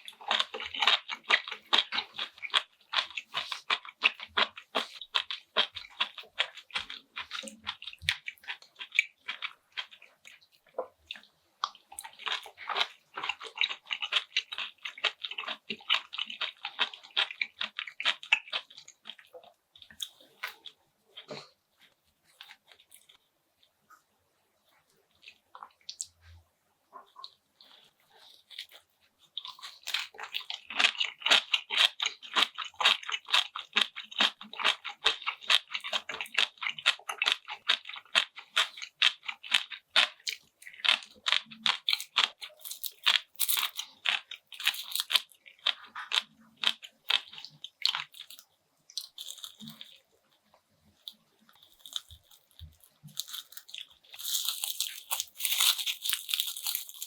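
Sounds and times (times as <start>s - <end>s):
person chewing crisp food: 0.0s - 24.0s, 24.7s - 57.0s.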